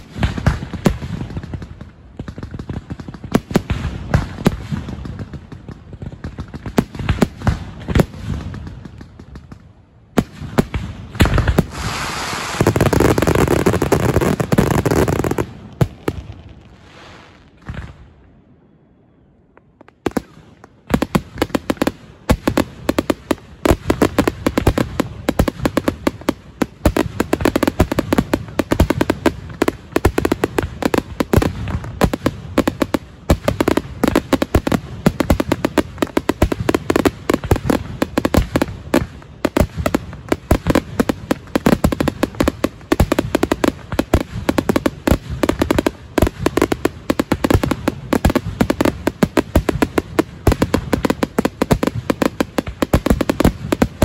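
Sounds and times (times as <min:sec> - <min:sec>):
firework bangs: 0:00.0 - 0:18.2, 0:19.8 - 0:54.0.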